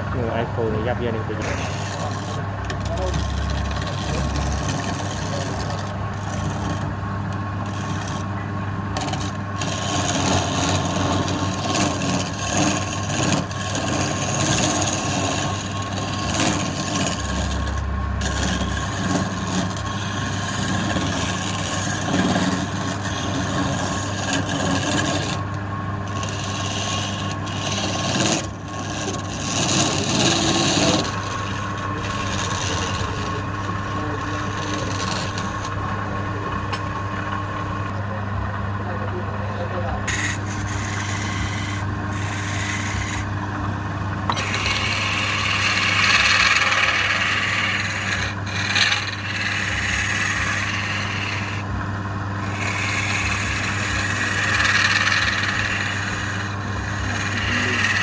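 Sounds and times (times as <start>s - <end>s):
tool scraping spinning wood: 0.0s - 38.0s, 38.6s - 58.0s
wood lathe motor hum: 0.0s - 58.0s.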